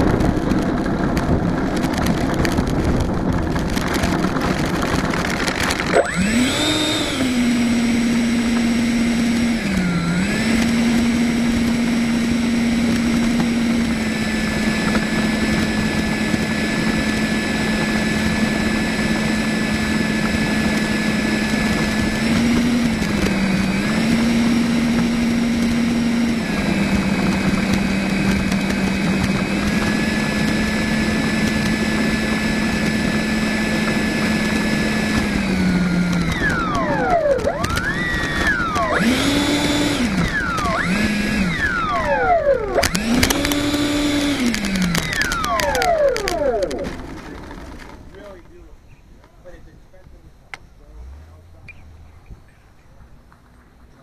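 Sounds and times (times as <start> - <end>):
electric ducted fan whine: 0.0 - 53.3
rattly windy noise: 0.0 - 54.0.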